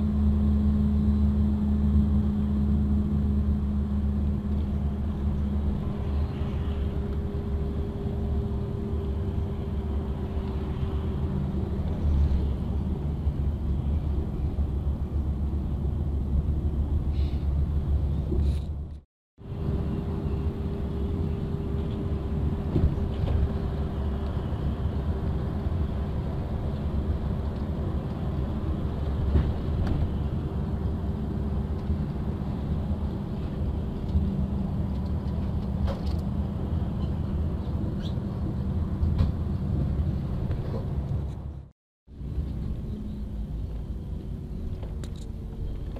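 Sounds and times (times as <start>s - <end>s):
vehicle engine and road rumble: 0.0s - 45.9s.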